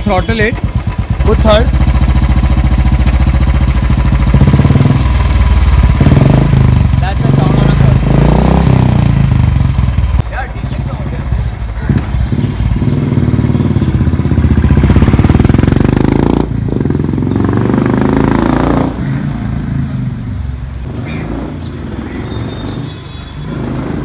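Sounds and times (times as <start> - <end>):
motorcycle accelerating: 0.0 - 24.0.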